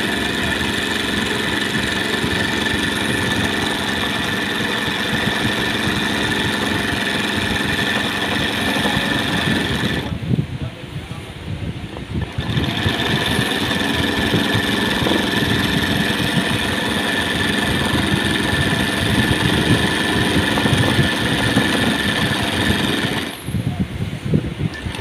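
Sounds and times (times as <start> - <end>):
sewing machine running: 0.0 - 10.2, 12.1 - 23.5, 24.7 - 25.0.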